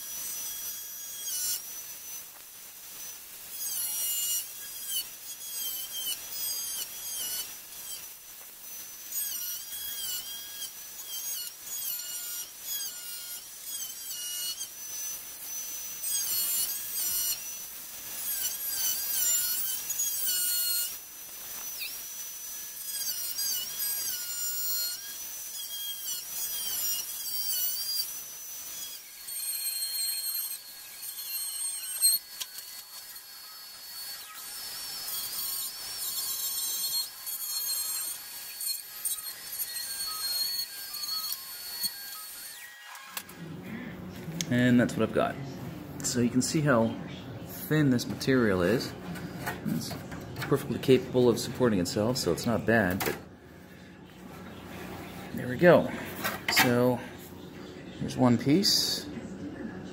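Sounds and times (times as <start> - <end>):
angle grinder cutting: 0.0 - 45.4, 46.0 - 57.4.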